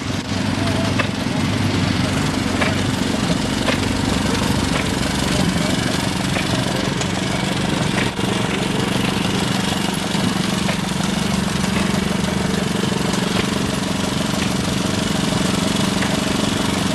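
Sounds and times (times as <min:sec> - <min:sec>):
small engine humming: 0:00.0 - 0:16.9.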